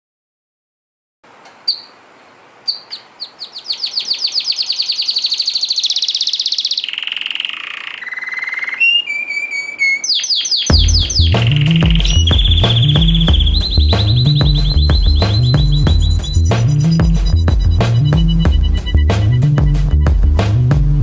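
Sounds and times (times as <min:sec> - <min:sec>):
canary singing: 0:01.6 - 0:20.5.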